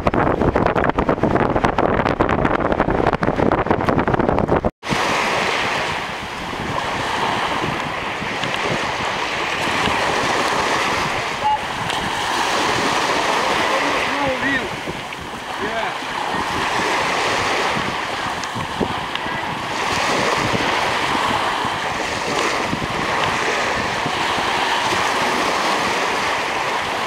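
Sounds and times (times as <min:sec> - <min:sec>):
wind buffeting microphone: 0:00.0 - 0:27.0
small waves in shallows: 0:04.8 - 0:27.0.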